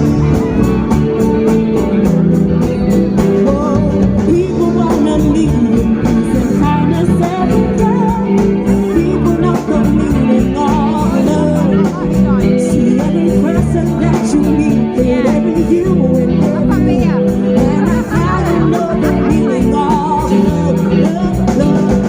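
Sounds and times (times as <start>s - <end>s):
guitar: 0.0s - 22.0s
person singing: 0.0s - 22.0s
steady drum beat: 0.0s - 22.0s.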